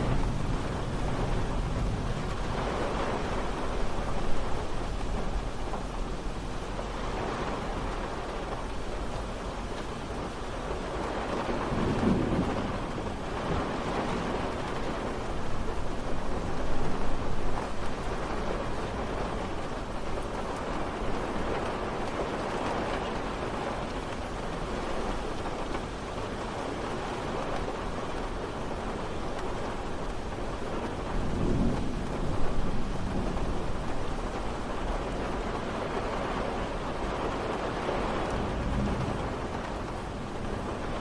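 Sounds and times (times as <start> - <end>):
low rumble of thunder: 0.0 - 41.0
steady rain falling: 0.0 - 41.0.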